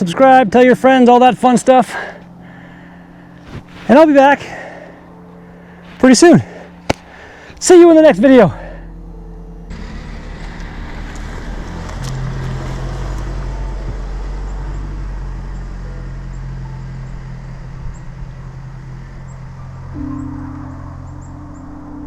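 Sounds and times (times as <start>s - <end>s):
higher hum: 1.8s - 11.2s, 13.1s - 22.0s
vehicle engine hum: 1.8s - 22.0s.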